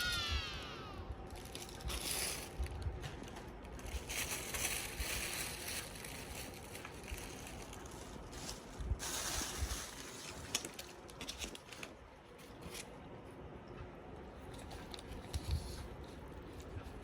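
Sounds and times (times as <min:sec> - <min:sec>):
small clicks and crackles: 0:01.3 - 0:12.9, 0:14.4 - 0:17.0.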